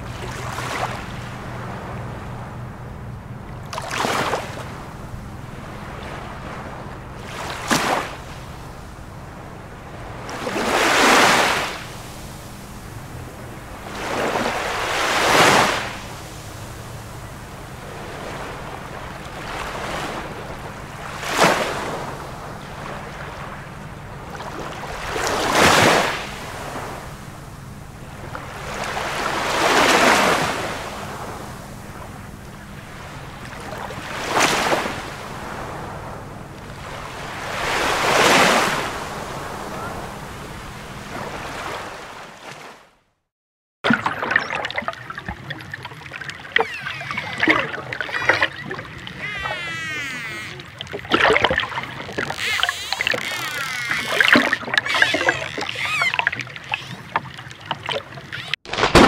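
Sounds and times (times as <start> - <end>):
ocean waves breaking: 0.0 - 43.1, 43.8 - 59.0.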